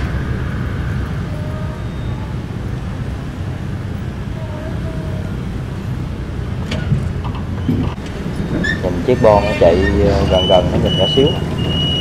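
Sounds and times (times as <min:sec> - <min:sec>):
wind-like noise: 0:00.0 - 0:10.1
low engine rumble: 0:00.0 - 0:12.0.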